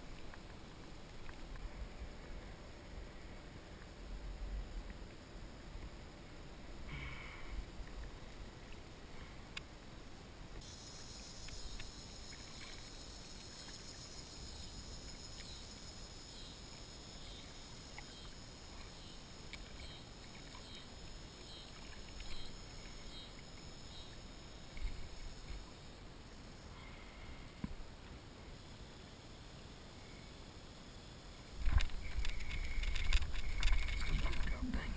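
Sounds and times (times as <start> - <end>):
quiet water sounds: 0.0 - 34.9.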